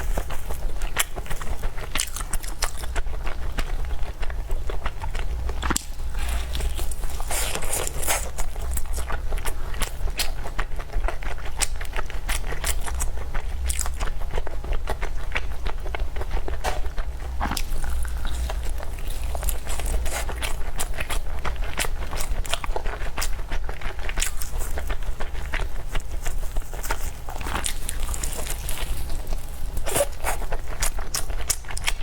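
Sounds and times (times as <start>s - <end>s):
chewing and biting food: 0.0s - 32.0s
steady low hum: 0.0s - 32.0s.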